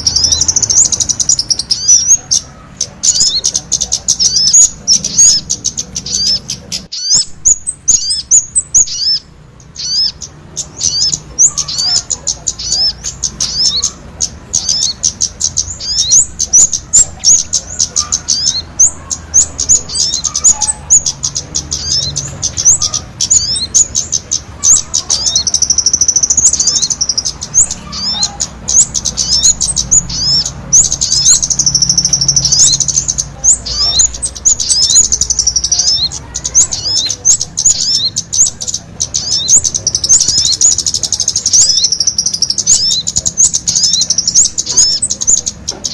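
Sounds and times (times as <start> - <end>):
songbirds chirping and twittering: 0.0 - 45.9
wavering bird trills: 0.0 - 45.9.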